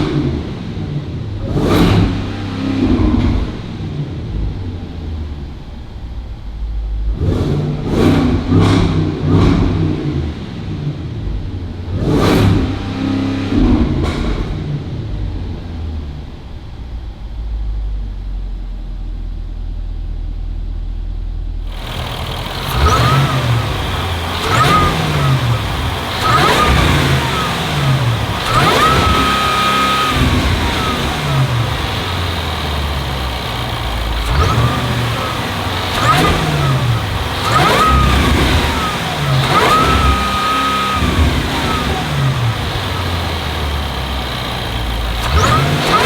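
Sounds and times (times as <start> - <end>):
engine exhaust rumbling and revving: 0.0 - 46.0.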